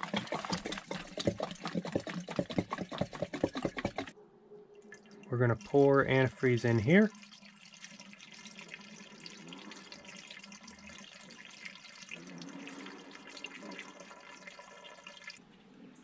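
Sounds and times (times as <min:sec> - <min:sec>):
liquid trickling into hose: 0:00.0 - 0:04.1, 0:04.8 - 0:15.4.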